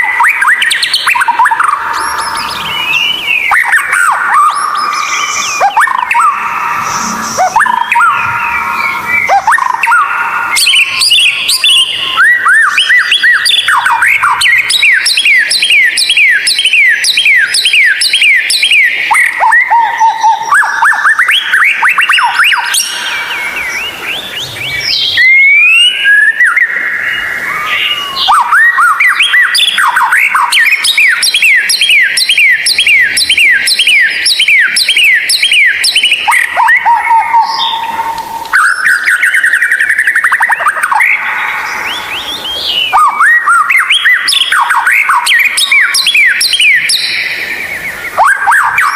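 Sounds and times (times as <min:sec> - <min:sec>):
bird singing whistled notes: 0:00.0 - 0:48.9.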